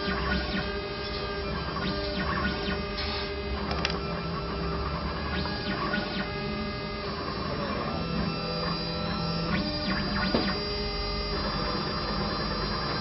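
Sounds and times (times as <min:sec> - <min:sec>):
cnc router running: 0:00.0 - 0:13.0
stepper motor whine: 0:00.0 - 0:13.0.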